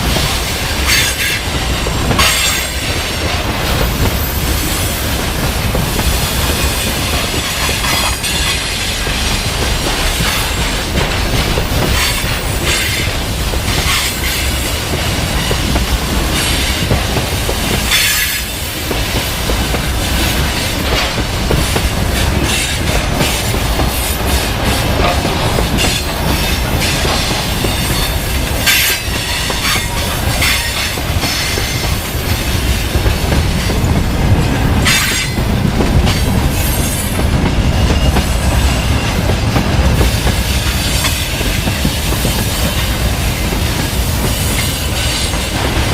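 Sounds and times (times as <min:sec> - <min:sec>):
freight train rumbling on rails: 0:00.0 - 0:45.9
wheel clacks over rail joints: 0:00.0 - 0:45.9.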